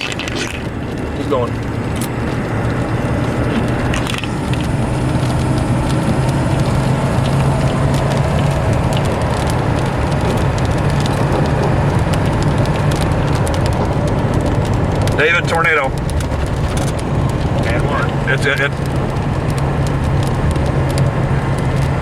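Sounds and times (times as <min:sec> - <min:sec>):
car engine and road noise: 0:00.0 - 0:22.0
light clicks and crackles: 0:00.0 - 0:22.0.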